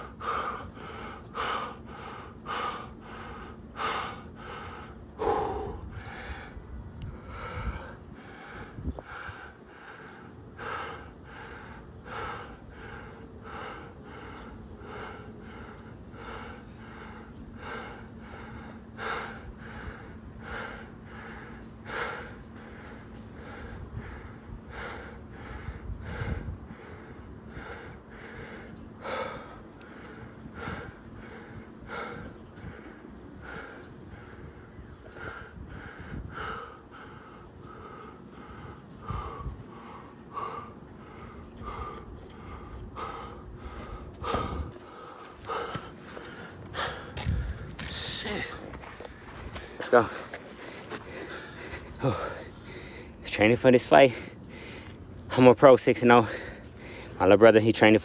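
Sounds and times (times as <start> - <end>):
person panting hard: 0.0 - 6.6, 7.2 - 55.4, 56.0 - 57.2.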